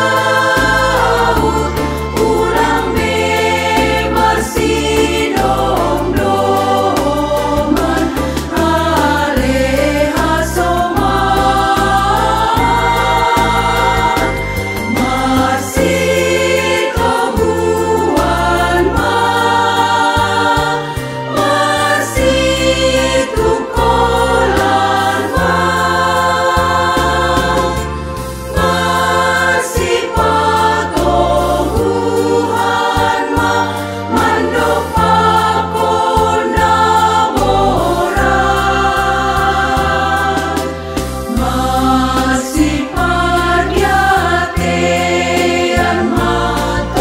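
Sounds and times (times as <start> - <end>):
instrumental accompaniment: 0.0 - 47.0
women's choir singing a hymn: 0.0 - 47.0.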